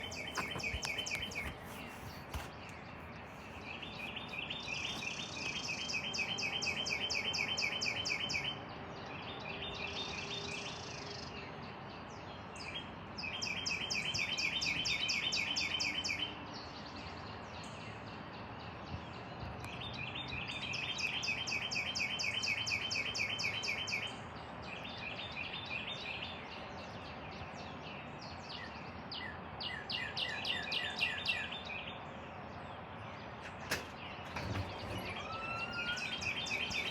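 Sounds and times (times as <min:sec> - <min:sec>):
birds chirping in trills: 0:00.0 - 0:36.9.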